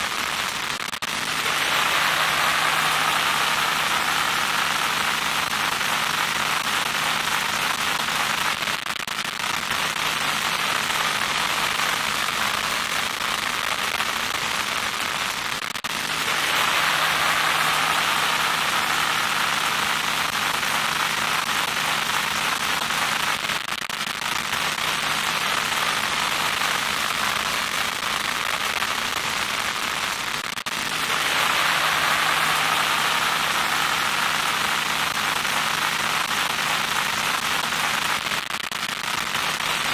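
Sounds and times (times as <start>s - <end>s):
static crackling hiss: 0.0s - 39.9s.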